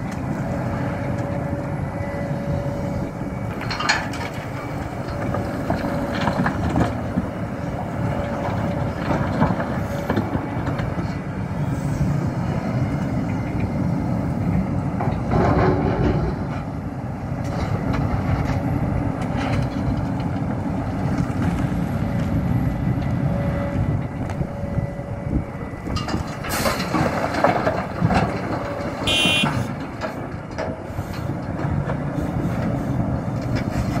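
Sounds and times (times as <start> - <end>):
excavator diesel engine working: 0.0 - 34.0.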